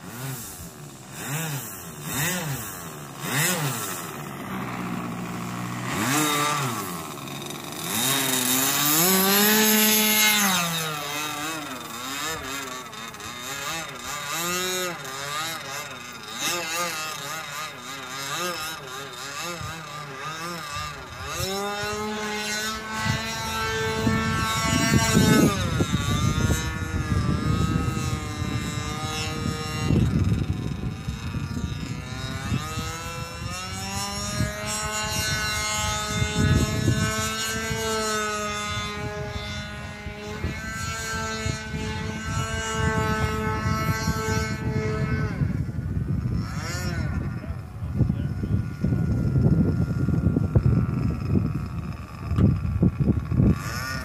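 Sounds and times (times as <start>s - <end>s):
model airplane engine: 0.0s - 54.0s.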